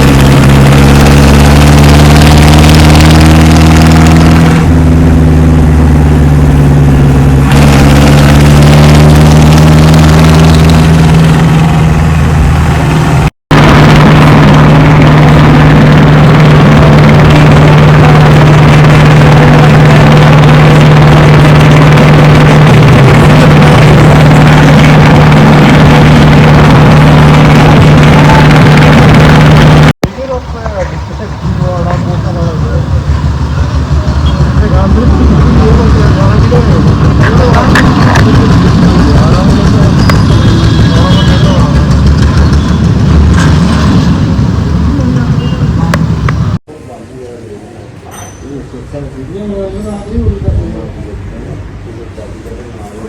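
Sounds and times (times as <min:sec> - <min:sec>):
tractor diesel engine running: 0:00.0 - 0:46.6.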